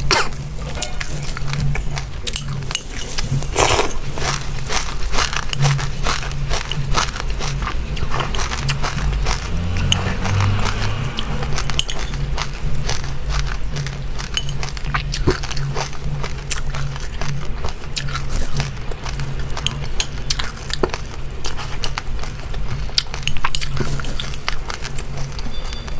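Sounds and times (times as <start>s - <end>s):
crunching and chewing dry seeds: 0.0s - 25.9s.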